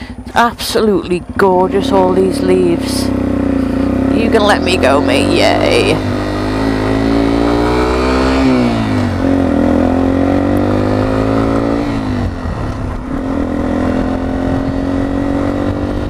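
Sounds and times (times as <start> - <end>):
motorcycle engine accelerating: 0.0 - 16.0
wind rushing over microphone: 2.5 - 16.0.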